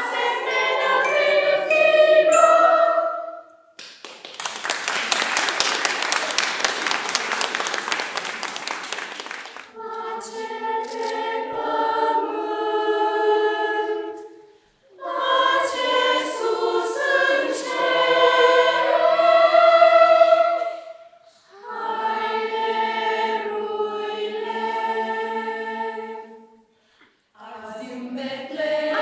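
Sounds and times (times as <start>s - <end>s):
children's choir singing a carol: 0.0s - 3.7s, 5.5s - 26.7s, 27.4s - 29.0s.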